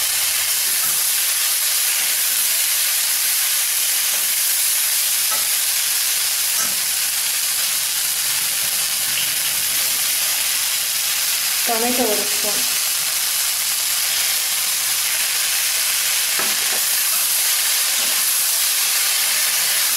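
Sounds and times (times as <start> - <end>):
vegetables sizzling in oil: 0.0 - 19.9.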